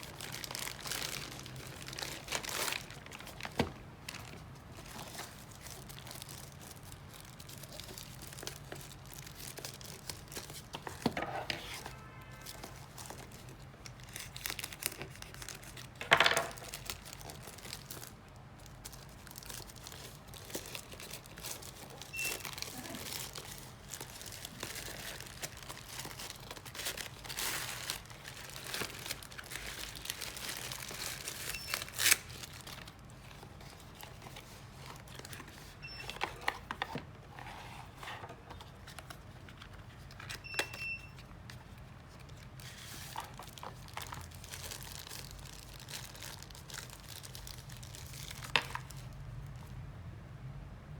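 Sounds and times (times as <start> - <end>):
packaging crinkling and tearing: 0.0 - 49.7.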